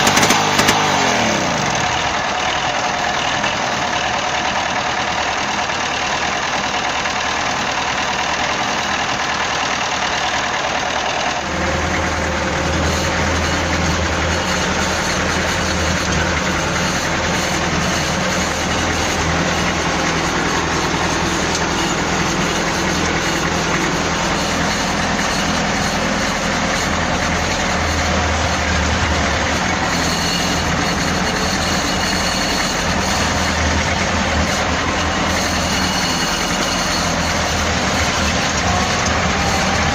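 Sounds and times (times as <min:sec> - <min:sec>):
crawler tractor diesel engine running: 0:00.0 - 0:39.9.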